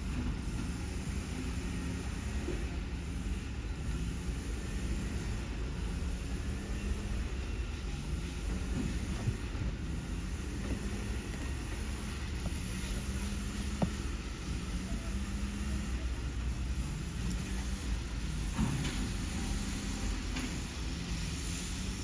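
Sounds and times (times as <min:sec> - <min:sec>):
diesel truck engine rumbling: 0:02.8 - 0:22.0.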